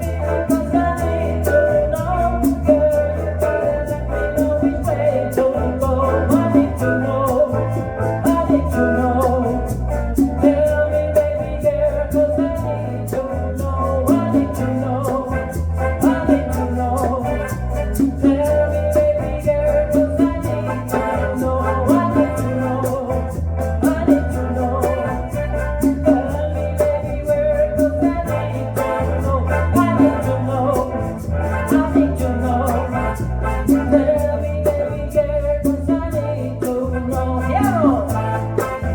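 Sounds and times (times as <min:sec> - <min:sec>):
conga and bongo beat: 0:00.0 - 0:38.9
latin band playing: 0:00.0 - 0:38.9
person singing lead: 0:00.0 - 0:38.9.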